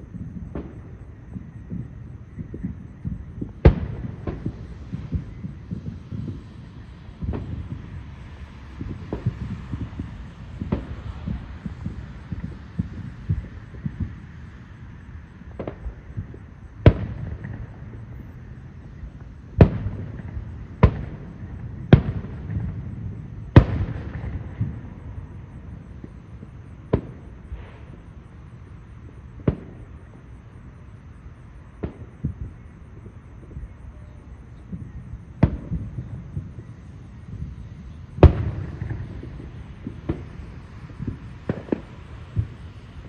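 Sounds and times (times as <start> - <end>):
steady low rumble: 0.0 - 43.0.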